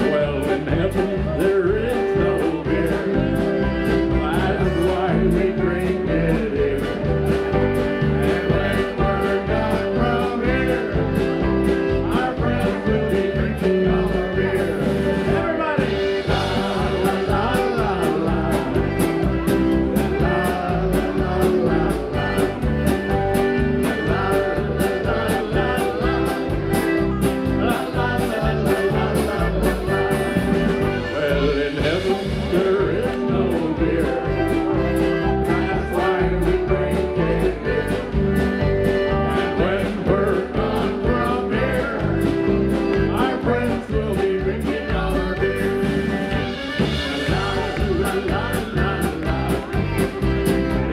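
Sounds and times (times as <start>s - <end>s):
man singing: 0.0s - 50.9s
polka band playing: 0.0s - 50.9s.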